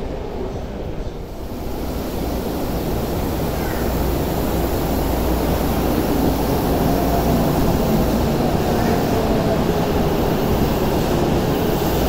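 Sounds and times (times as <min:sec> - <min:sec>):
subway train rumbling into station: 0:00.0 - 0:12.0.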